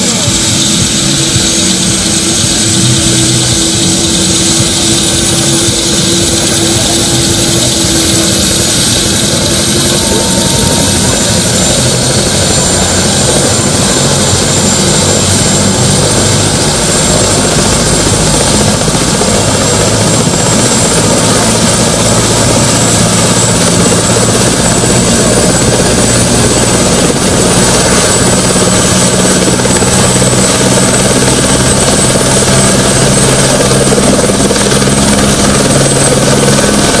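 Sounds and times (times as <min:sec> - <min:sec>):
helicopter rotor and engine noise: 0:00.0 - 0:37.0
high turbine whine: 0:00.0 - 0:37.0.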